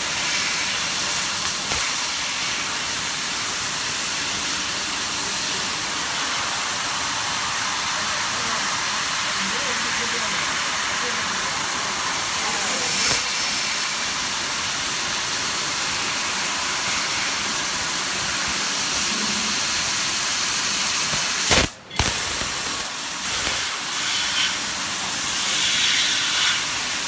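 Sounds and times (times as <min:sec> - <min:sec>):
assist gas hissing: 0:00.3 - 0:14.8, 0:15.4 - 0:27.0.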